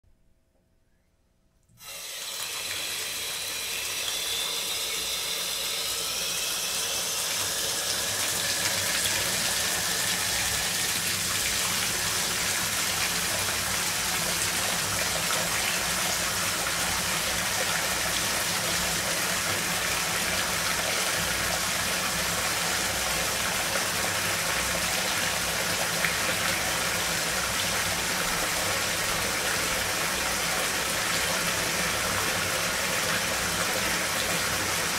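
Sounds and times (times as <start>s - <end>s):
water pouring into bathtub: 1.8s - 34.9s.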